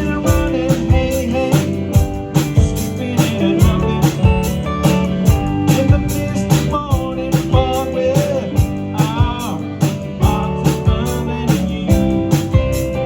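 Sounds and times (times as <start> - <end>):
band playing soul-blues groove: 0.0 - 13.0
bending lead guitar line: 0.0 - 13.0
drum kit beat: 0.0 - 13.0.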